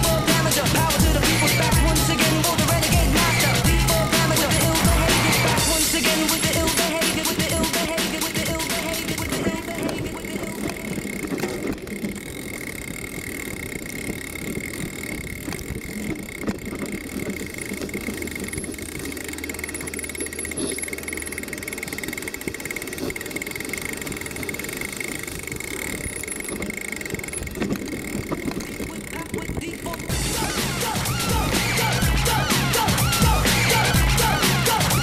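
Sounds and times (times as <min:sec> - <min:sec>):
bike rumbling on dirt trail: 0:00.0 - 0:35.0.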